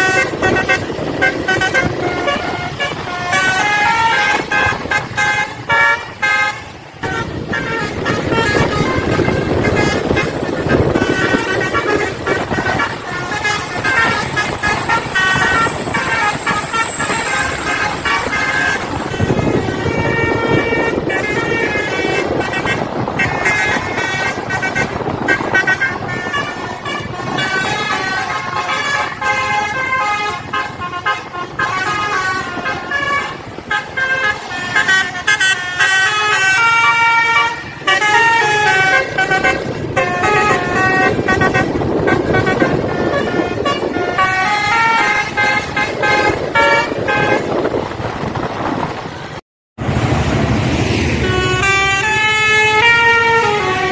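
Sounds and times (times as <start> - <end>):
multi-tone horn melody: 0.0 - 48.1, 50.8 - 53.9
engine and road noise: 0.0 - 53.9.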